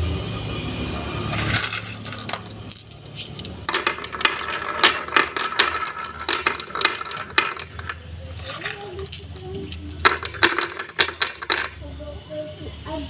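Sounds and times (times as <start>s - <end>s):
marbles rolling and clacking: 1.3s - 11.9s.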